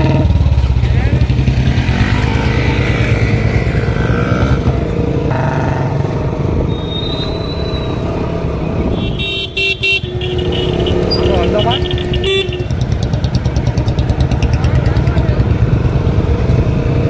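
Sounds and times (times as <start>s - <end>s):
motorcycle engine running: 0.0s - 7.0s, 7.7s - 17.0s.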